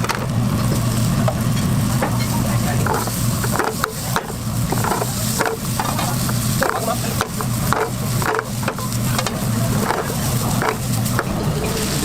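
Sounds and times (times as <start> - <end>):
egg sizzling in a pan: 0.0 - 12.0.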